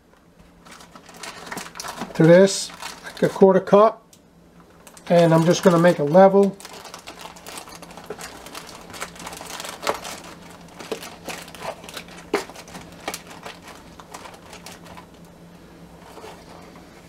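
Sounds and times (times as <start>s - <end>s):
sugar crinkling: 0.5s - 3.5s, 4.6s - 17.0s.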